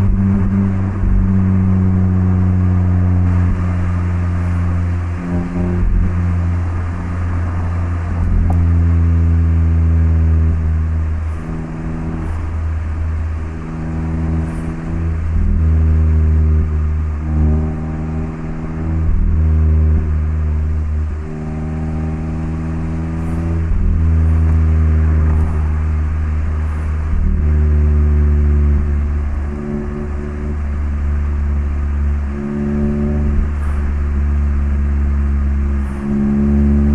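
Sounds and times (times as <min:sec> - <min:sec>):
car exhaust note while driving: 0:00.0 - 0:36.9.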